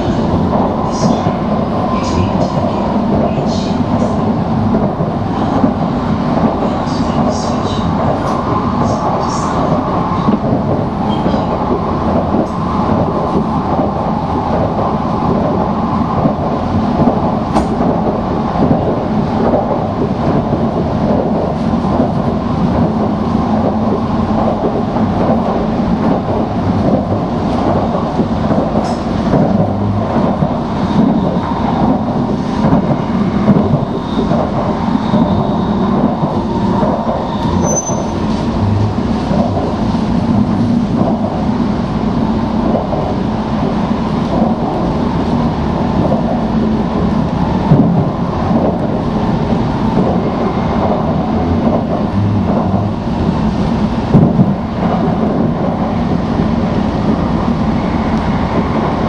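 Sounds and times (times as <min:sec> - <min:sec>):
train rumble inside cabin: 0:00.0 - 0:59.0.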